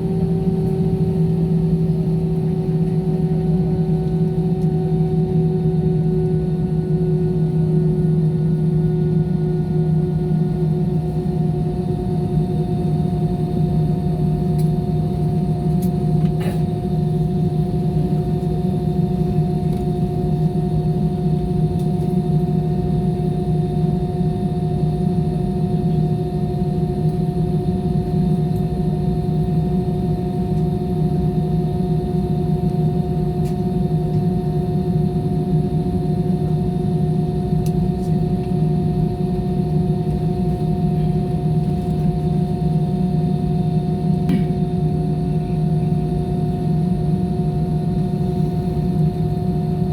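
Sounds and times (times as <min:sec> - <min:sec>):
airliner engines droning in cabin: 0:00.0 - 0:49.9.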